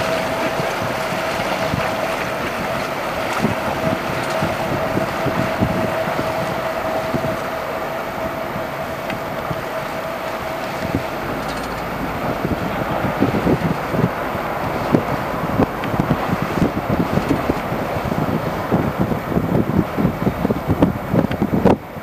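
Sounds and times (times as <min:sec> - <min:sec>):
boat engines running: 0:00.0 - 0:22.0
engine whine: 0:00.0 - 0:22.0
wind buffeting microphone: 0:00.0 - 0:22.0.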